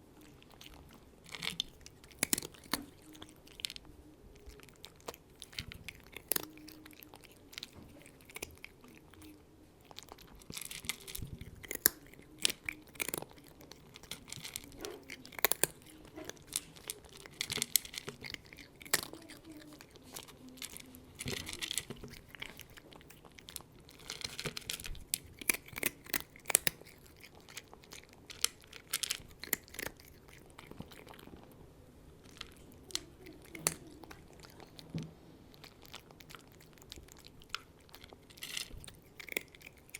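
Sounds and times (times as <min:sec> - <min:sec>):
cat chewing food: 0:00.0 - 0:39.9.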